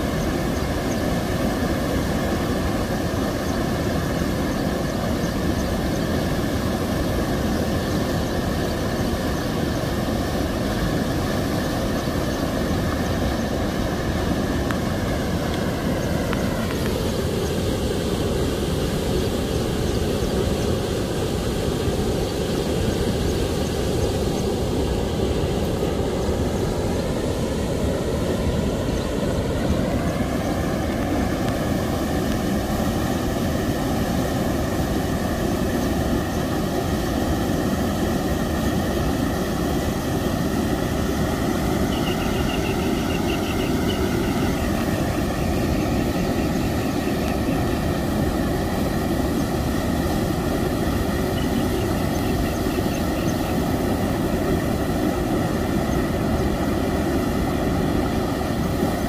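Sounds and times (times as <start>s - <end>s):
rush of flowing water: 0.0s - 59.0s.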